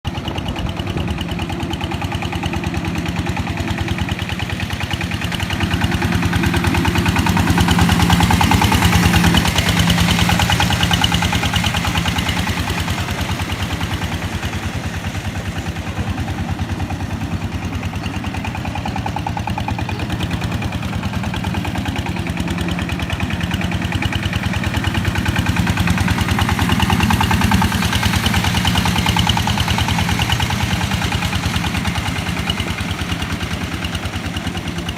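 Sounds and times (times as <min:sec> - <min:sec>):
engine chugging: 0:00.0 - 0:34.9.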